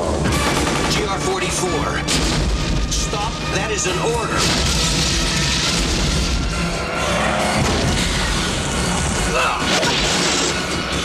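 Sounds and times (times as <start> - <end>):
dramatic music: 0.0 - 11.0.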